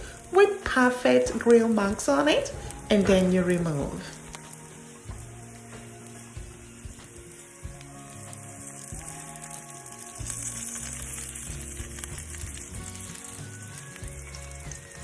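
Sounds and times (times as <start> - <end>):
fish sizzling on a grill pan: 0.0 - 15.0.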